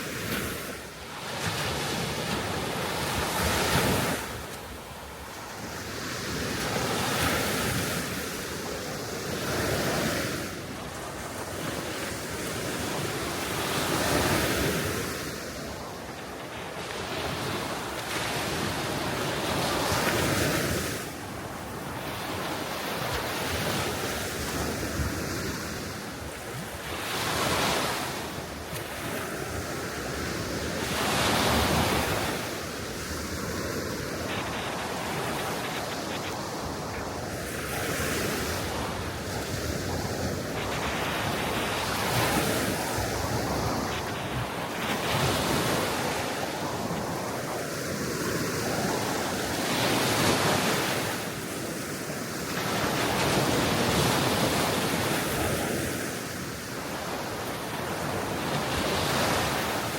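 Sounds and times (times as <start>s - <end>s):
sea waves washing onto shore: 0.0s - 59.9s
wind blowing across microphone: 0.0s - 59.9s.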